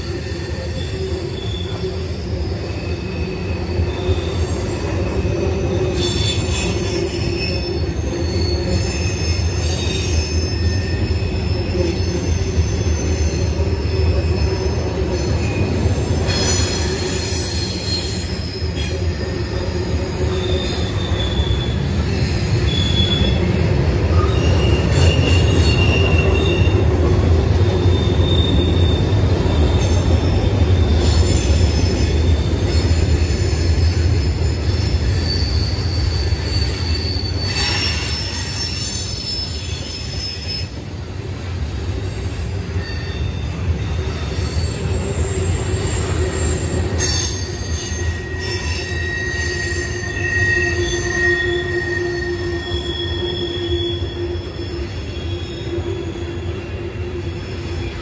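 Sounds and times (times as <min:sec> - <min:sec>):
high-pitched wheel squeals: 0:00.0 - 0:41.0, 0:41.9 - 0:58.0.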